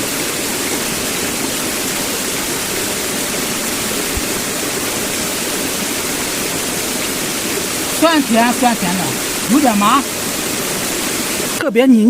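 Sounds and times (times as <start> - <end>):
stream water running: 0.0 - 11.8.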